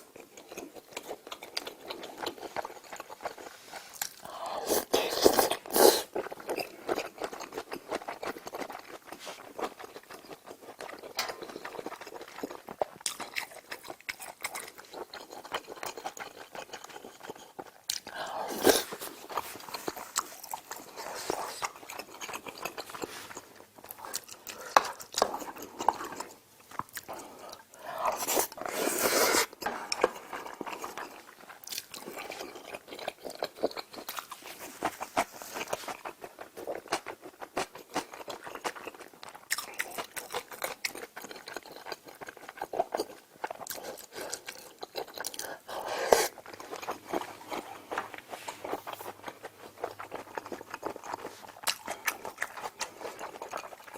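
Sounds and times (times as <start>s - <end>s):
person chewing and biting: 0.2s - 53.9s.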